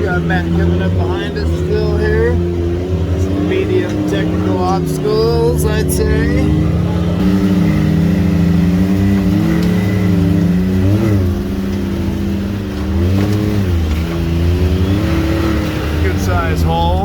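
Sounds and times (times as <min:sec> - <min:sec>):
side-by-side engine running: 0:00.0 - 0:17.0.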